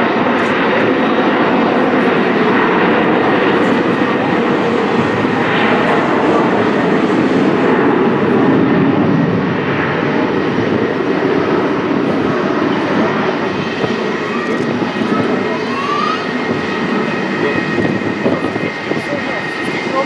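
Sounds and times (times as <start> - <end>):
jet engines powering up: 0.0 - 20.0.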